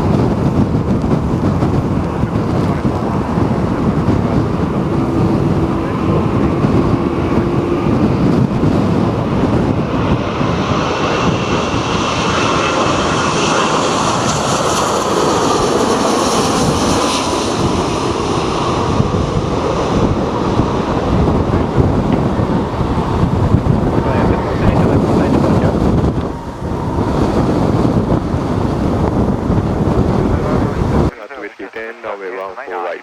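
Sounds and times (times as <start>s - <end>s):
wind buffeting microphone: 0.0s - 31.9s
jet airliner engine roar: 0.0s - 33.0s.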